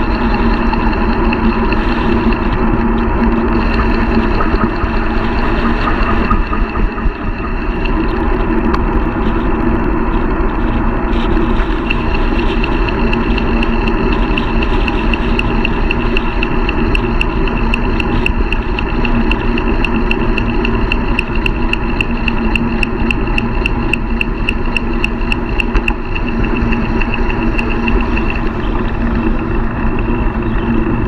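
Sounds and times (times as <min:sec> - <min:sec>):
light regular ticking: 0:00.0 - 0:31.0
tyres humming on asphalt: 0:00.0 - 0:31.0
wind rushing over microphone: 0:00.0 - 0:31.0.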